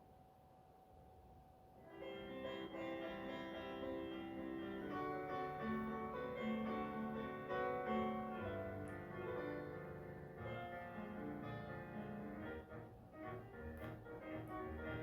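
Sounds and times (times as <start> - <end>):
piano music: 1.8 - 15.0.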